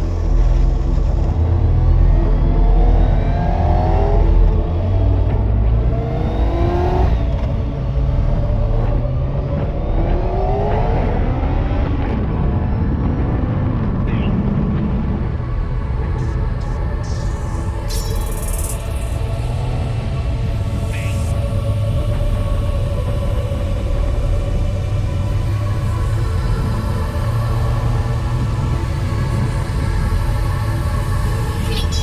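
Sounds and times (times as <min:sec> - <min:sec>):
low rumble of wind: 0:00.0 - 0:32.0.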